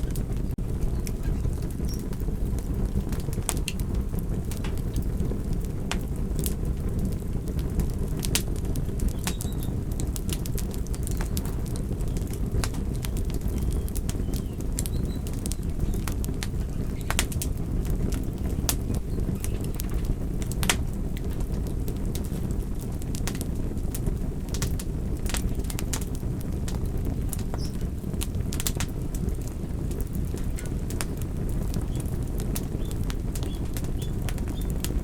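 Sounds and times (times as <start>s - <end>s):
fire crackling and popping: 0.0s - 35.0s
low fire rumble: 0.0s - 35.0s.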